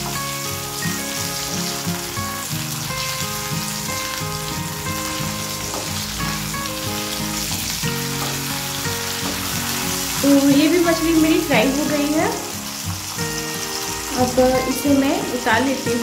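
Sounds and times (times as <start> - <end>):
background music with held notes: 0.0 - 16.0
fish sizzling in oil: 0.0 - 16.0
spatula turning fish in pan: 0.9 - 15.8.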